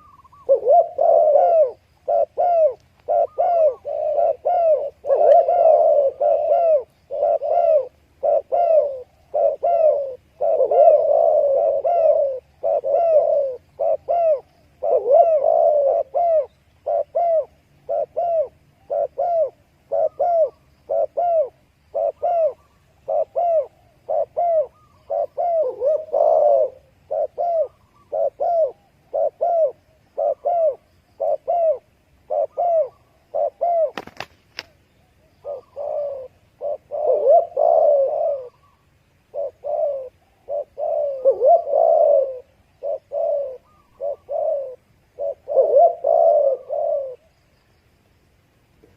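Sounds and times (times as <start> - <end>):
dove cooing: 0.0 - 47.4.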